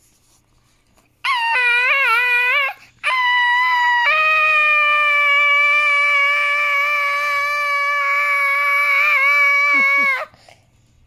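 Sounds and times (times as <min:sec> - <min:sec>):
child screaming: 0:01.3 - 0:10.3.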